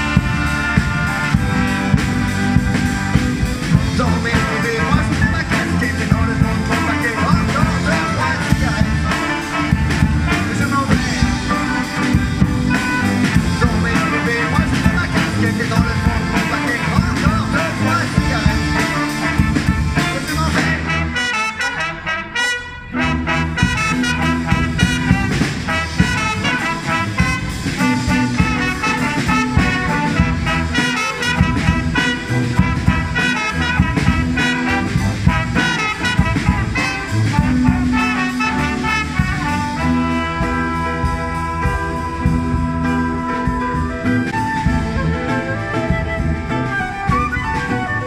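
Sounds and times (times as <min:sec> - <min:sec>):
jazzy street band playing: 0:00.0 - 0:48.0.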